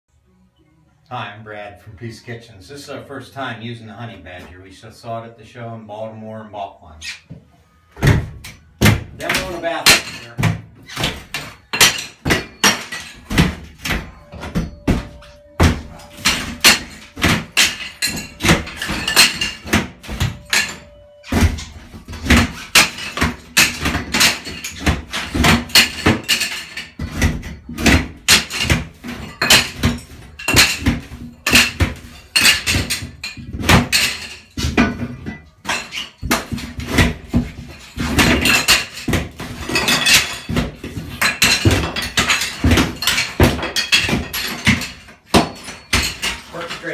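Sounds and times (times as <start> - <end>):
demolition tool knocking tile: 8.0 - 46.5
tile pieces clattering into bathtub: 9.2 - 46.9.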